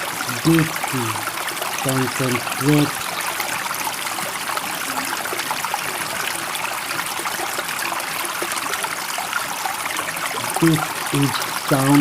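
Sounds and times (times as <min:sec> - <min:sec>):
running water rushing and trickling: 0:00.0 - 0:12.0.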